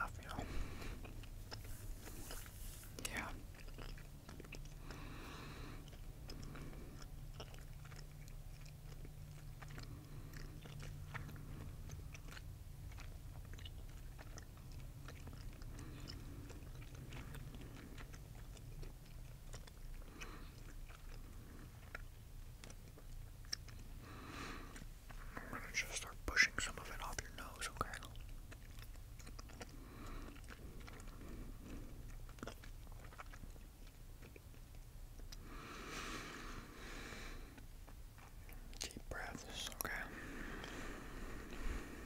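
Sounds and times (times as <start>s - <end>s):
person chewing gum: 0.0s - 42.0s.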